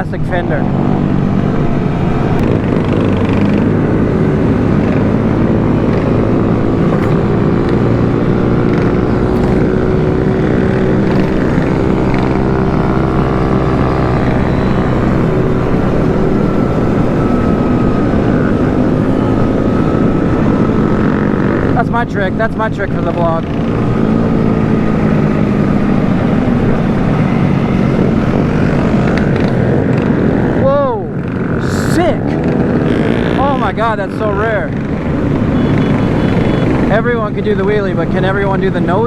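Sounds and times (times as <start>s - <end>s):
wind rumble on microphone: 0.0s - 38.6s
small motorcycle engines running: 0.0s - 39.0s.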